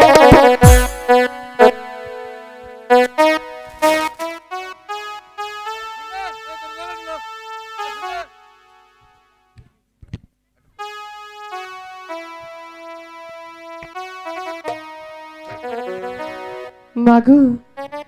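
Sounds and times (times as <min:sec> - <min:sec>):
electronic keyboard synth notes: 0:00.0 - 0:09.1, 0:10.8 - 0:17.0.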